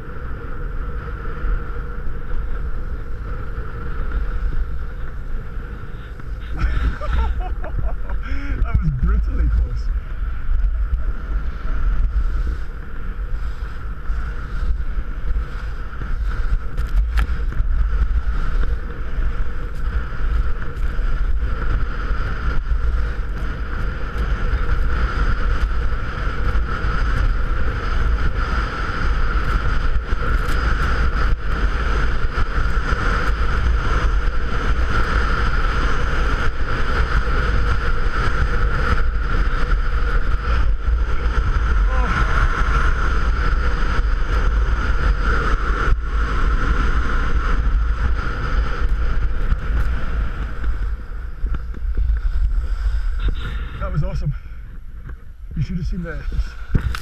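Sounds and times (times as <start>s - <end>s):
heavy wind rumble on microphone: 0.0s - 57.0s
skis hissing over packed snow: 2.9s - 8.7s, 11.0s - 54.2s.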